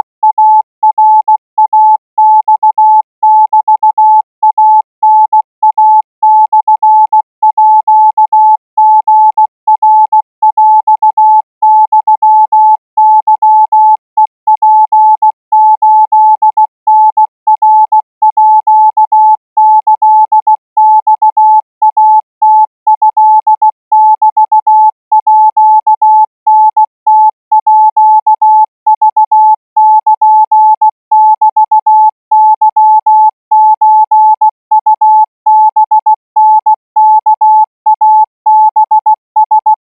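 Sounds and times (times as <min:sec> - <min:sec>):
morse code tone: 0:00.0 - 0:39.8.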